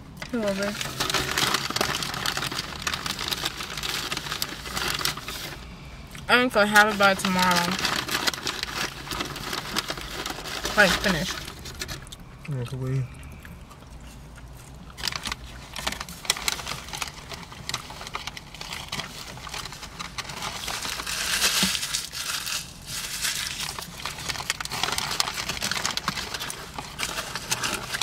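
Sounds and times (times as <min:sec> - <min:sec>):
paper wrapper crinkling: 0:00.2 - 0:05.6, 0:06.6 - 0:12.3, 0:14.1 - 0:28.0.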